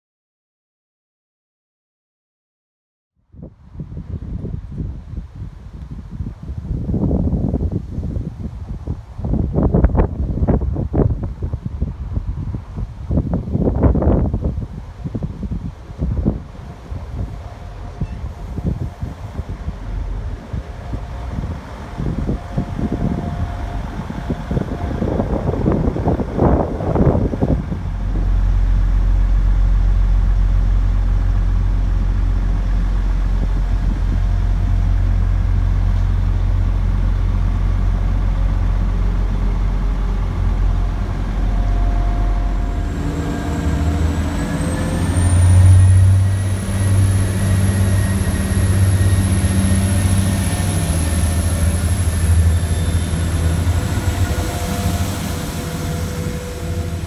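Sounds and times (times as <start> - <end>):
train diesel engine drone: 3.2 - 57.0
train engine and whine rising: 3.4 - 57.0.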